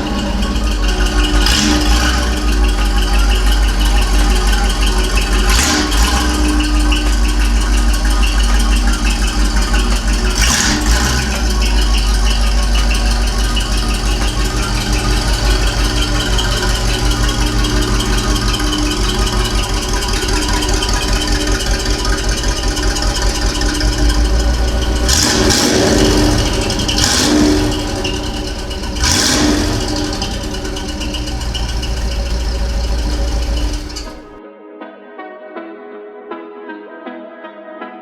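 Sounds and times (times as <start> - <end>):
deep car engine running: 0.0 - 34.4.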